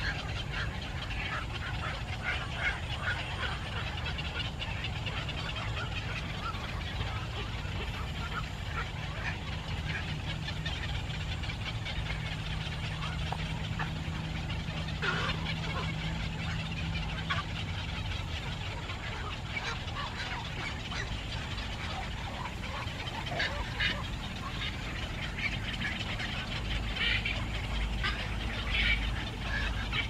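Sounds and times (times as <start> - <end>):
low hum: 0.0 - 30.0
steady low rumble: 0.0 - 30.0.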